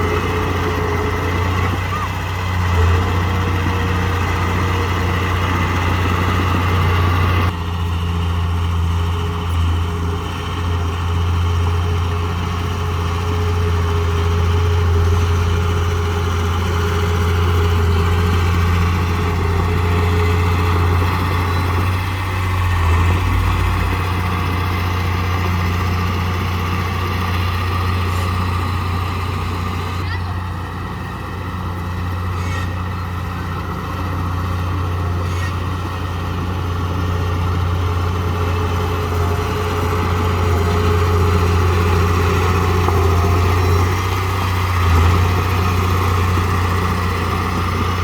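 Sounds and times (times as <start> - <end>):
heavy diesel engine humming: 0.0 - 48.0.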